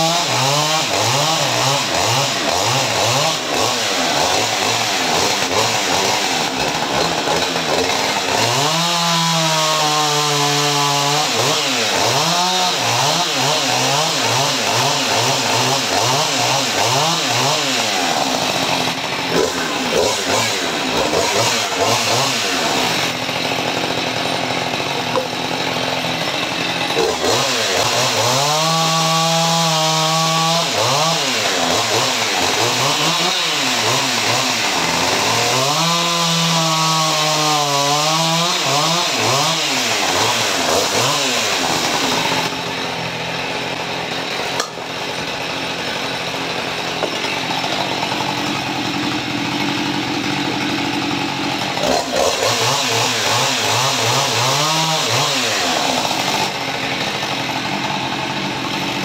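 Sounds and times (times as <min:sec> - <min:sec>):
chainsaw cutting logs: 0:00.0 - 0:59.0.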